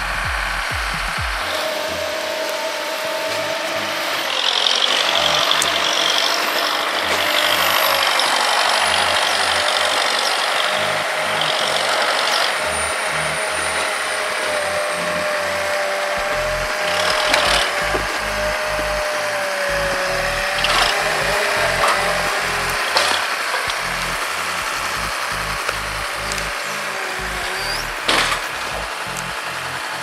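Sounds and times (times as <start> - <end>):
diesel engine and hydraulics running: 0.0 - 30.0
steady whine: 0.0 - 30.0.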